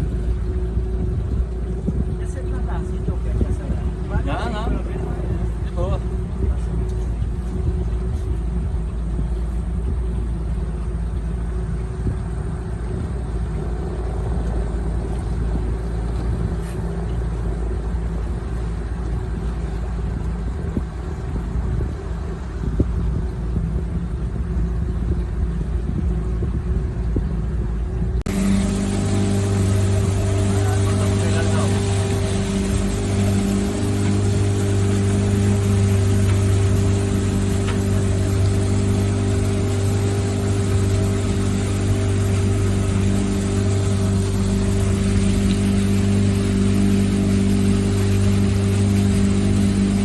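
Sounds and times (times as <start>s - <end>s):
boat motor running: 0.0s - 50.0s.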